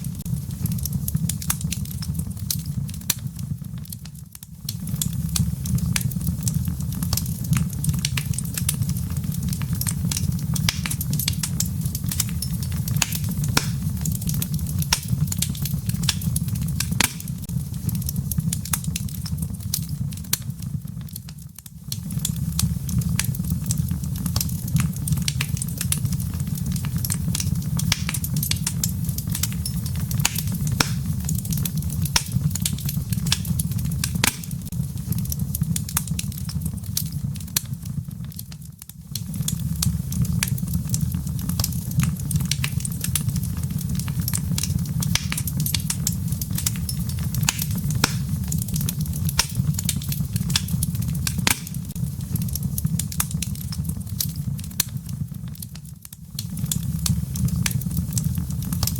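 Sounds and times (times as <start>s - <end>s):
fire crackling and popping: 0.0s - 58.9s
low fire rumble: 0.0s - 58.9s.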